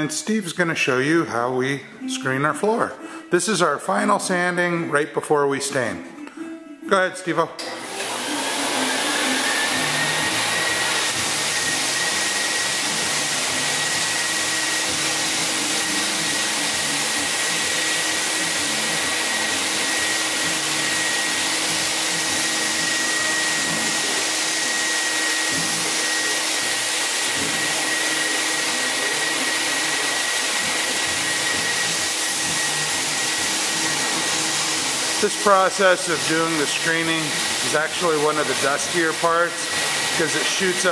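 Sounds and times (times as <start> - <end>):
floor buffer whining: 0.0 - 40.9
dust extraction vacuum: 7.6 - 40.9.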